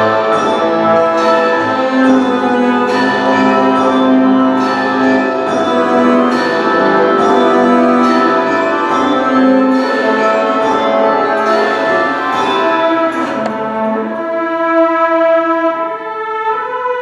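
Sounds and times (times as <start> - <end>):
orchestral music through speakers: 0.0 - 17.0.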